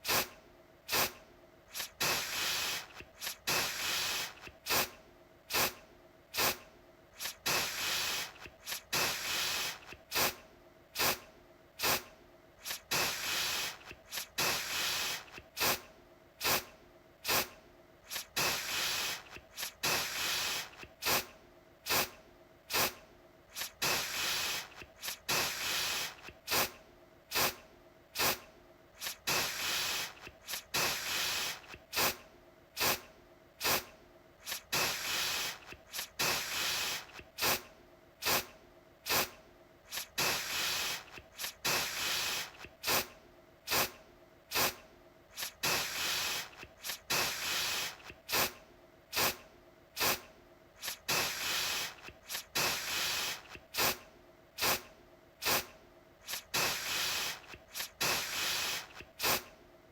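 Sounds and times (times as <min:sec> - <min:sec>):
aerosol can spraying: 0:00.0 - 0:00.3, 0:00.9 - 0:05.8, 0:06.4 - 0:06.6, 0:07.2 - 0:10.4, 0:11.0 - 0:11.2, 0:11.8 - 0:15.8, 0:16.4 - 0:27.6, 0:28.2 - 0:28.4, 0:29.0 - 0:32.2, 0:32.8 - 0:38.5, 0:39.1 - 0:43.1, 0:43.7 - 0:49.4, 0:50.0 - 0:54.0, 0:54.6 - 0:59.5.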